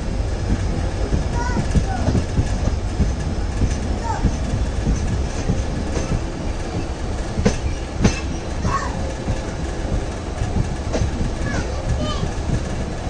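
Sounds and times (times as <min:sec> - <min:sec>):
train rumbling: 0:00.0 - 0:13.0
wheels clacking over rail joints: 0:00.0 - 0:13.0
wheels squealing: 0:00.7 - 0:13.0.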